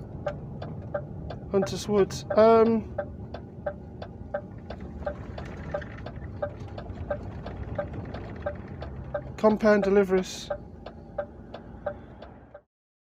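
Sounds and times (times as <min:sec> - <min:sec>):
truck engine running: 0:00.0 - 0:12.6
turn signal ticking: 0:00.0 - 0:12.7.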